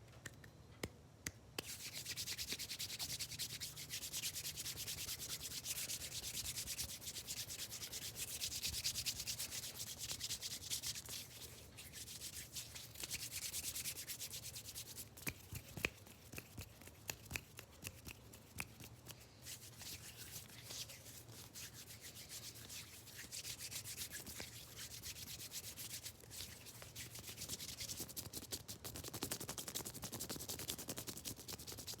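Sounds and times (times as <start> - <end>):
hands rubbing together: 1.6 - 32.0.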